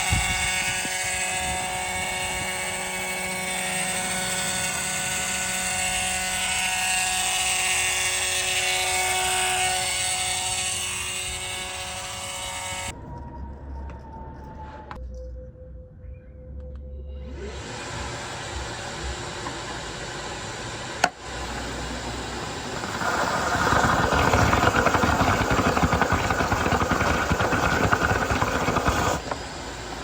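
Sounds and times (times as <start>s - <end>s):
small motor whining: 0.0s - 13.0s, 17.3s - 30.0s.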